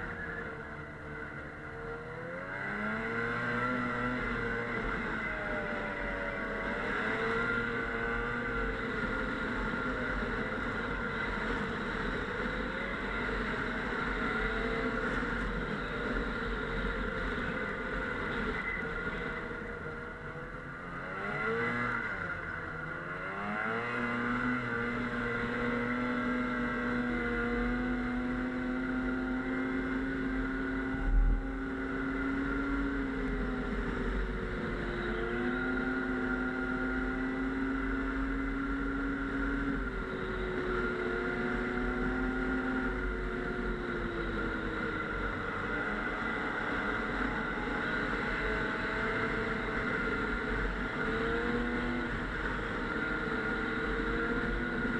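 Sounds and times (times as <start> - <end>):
snowmobile engine running: 0.0 - 54.9.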